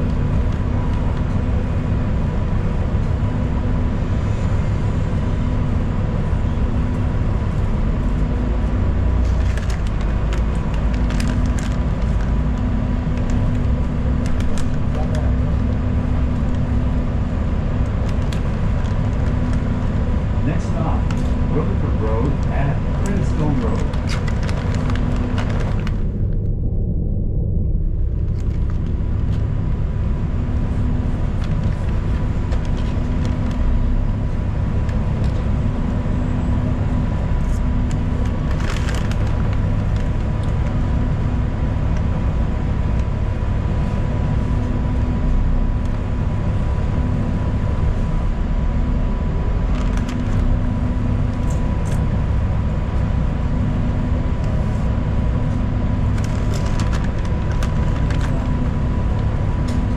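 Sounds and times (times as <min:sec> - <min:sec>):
bus engine and road rumble: 0:00.0 - 0:59.9
thin steady whine: 0:00.0 - 0:59.9.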